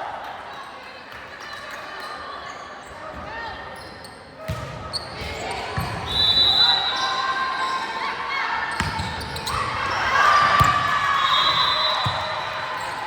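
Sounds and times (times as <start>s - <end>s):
voices echoing in hall: 0.0s - 13.0s.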